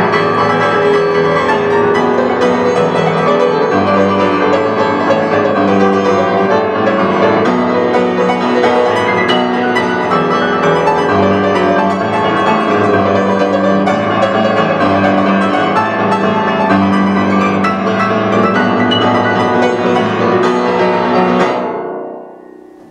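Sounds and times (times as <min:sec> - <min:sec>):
grand piano playing: 0:00.0 - 0:22.9.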